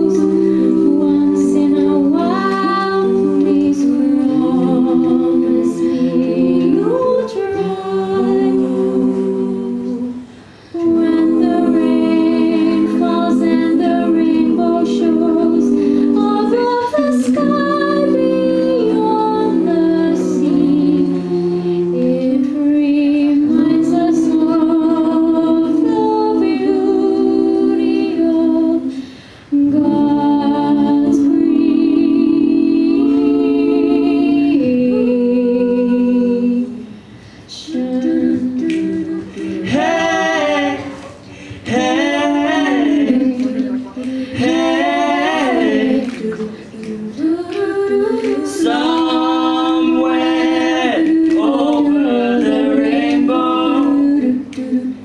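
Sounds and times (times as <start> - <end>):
a cappella group singing in harmony: 0.0 - 55.0.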